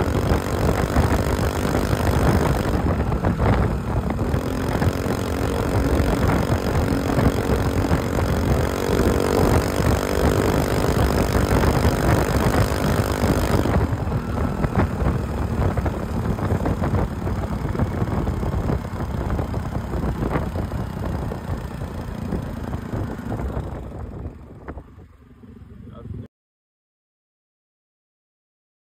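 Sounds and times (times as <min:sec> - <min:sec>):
scooter engine exhaust: 0:00.0 - 0:26.2.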